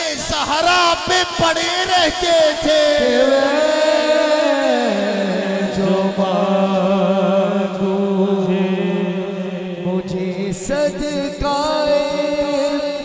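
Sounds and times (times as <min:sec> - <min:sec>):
male voices holding drone note: 0:00.0 - 0:13.0.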